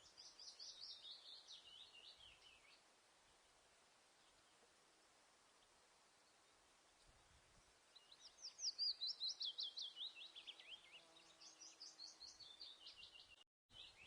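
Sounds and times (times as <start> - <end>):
small songbird singing: 0.0 - 14.0.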